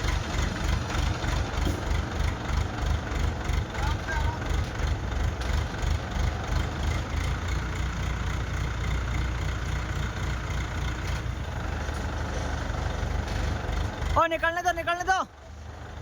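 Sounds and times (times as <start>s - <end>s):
diesel engine low rumble: 0.0s - 16.0s.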